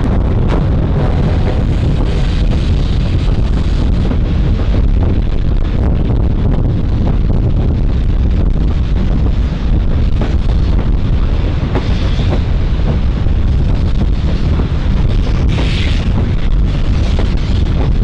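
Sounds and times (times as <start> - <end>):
steam locomotive exhaust chuffs: 0.0 - 18.0
wind rumble on microphone: 0.0 - 18.0.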